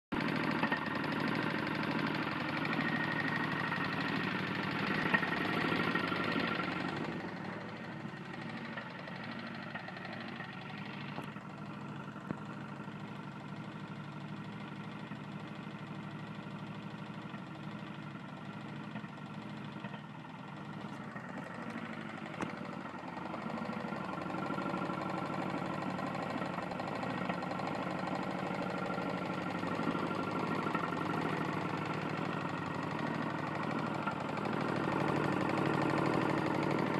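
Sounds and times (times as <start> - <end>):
lawn mower engine knocking: 0.1 - 36.9.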